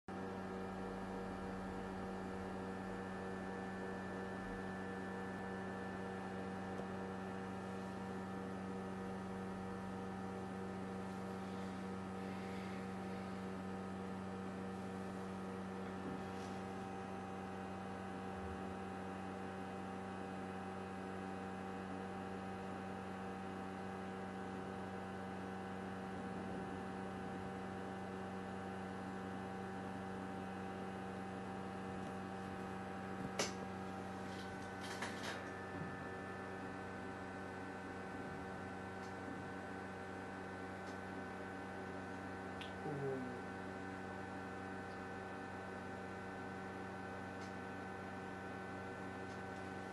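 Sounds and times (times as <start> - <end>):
electrical hum: 0.1 - 49.9.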